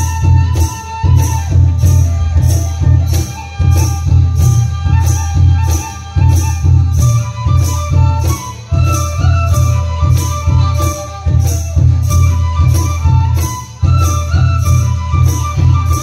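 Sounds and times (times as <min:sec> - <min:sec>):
high held melody: 0:00.0 - 0:16.0
low drums beating: 0:00.0 - 0:16.0.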